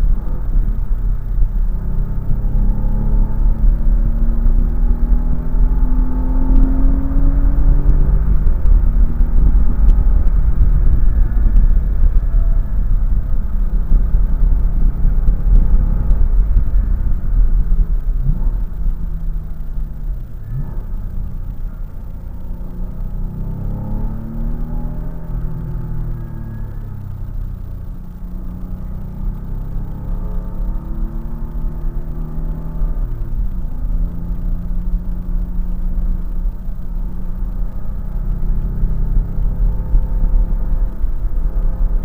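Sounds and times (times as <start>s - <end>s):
car engine driven hard: 0.0s - 42.0s.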